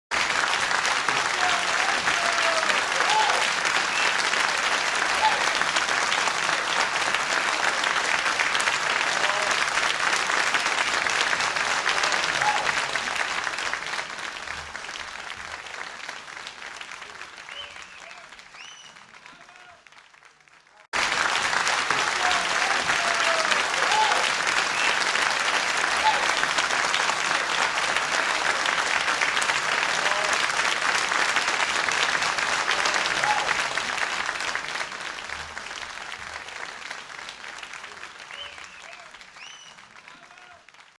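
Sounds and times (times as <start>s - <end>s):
audience applause: 0.1s - 40.9s.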